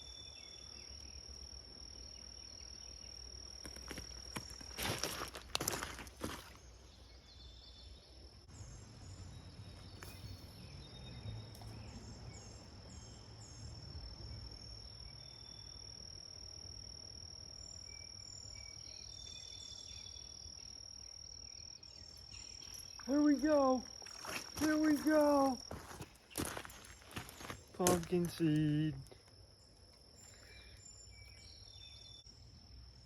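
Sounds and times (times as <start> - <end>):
insect chirps: 0.0 - 33.0
insects droning: 0.0 - 33.0.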